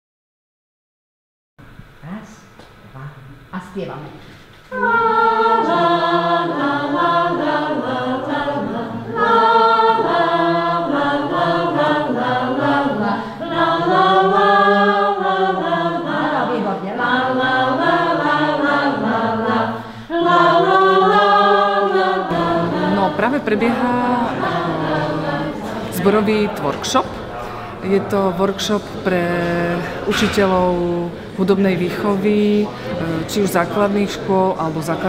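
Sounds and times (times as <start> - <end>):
choir singing a cappella: 4.7 - 35.0.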